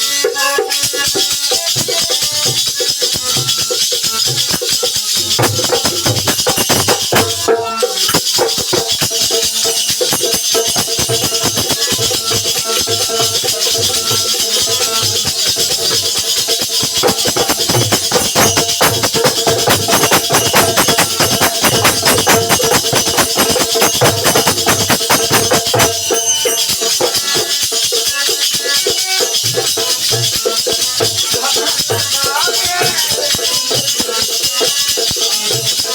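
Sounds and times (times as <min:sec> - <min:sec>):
folk drums playing fast rhythm: 0:00.0 - 0:35.9
small cymbals clashing: 0:00.0 - 0:35.9
jingles shaking: 0:00.8 - 0:35.9.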